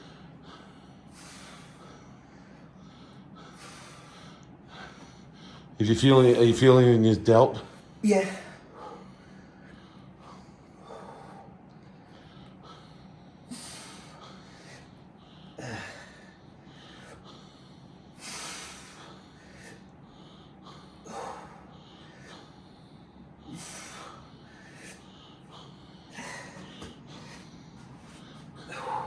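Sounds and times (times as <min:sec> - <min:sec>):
person breathing hard: 0:00.0 - 0:06.6, 0:07.8 - 0:29.0.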